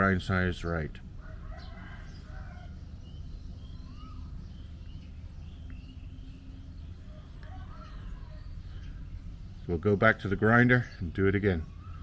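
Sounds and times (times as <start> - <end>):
birds chirping and calling: 0.0 - 12.0
steady low rumble: 0.0 - 12.0.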